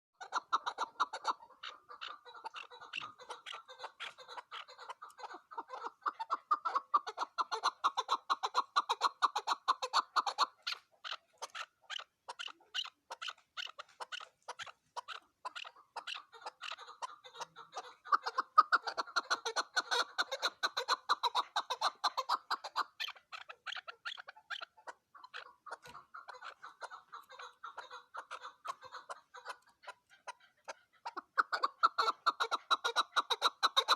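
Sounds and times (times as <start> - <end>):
partridge clucking calls: 0.2 - 33.9.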